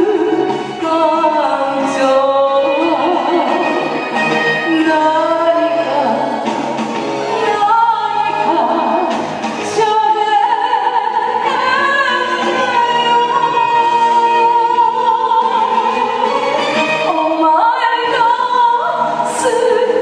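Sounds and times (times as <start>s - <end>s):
woman singing into a microphone: 0.0s - 6.5s, 7.4s - 16.3s, 16.9s - 20.0s
instrumental backing music: 0.0s - 20.0s.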